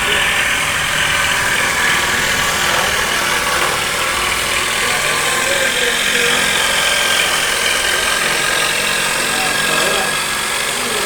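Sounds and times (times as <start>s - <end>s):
electric motor running: 0.0s - 11.0s.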